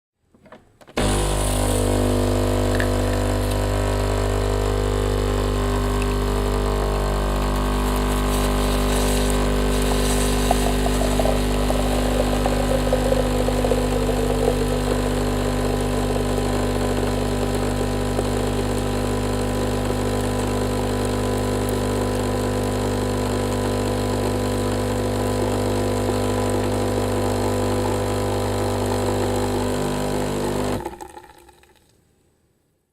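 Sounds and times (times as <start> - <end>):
coffee machine pump humming: 1.0 - 31.7.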